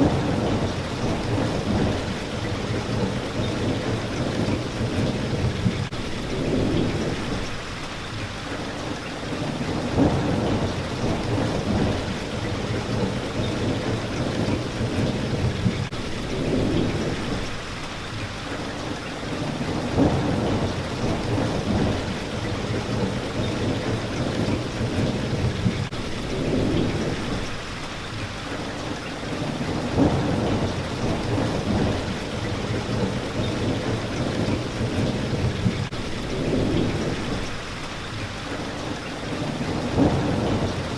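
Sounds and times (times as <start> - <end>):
thunder rumbles: 0.0 - 7.7, 9.3 - 17.6, 19.3 - 27.8, 29.2 - 37.8, 39.3 - 40.9
rain hitting a window: 0.0 - 40.9.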